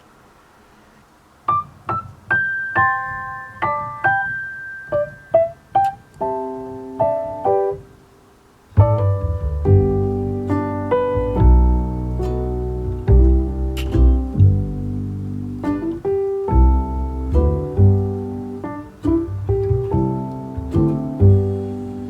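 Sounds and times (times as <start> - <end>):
piano music: 1.5 - 8.0, 8.8 - 22.0.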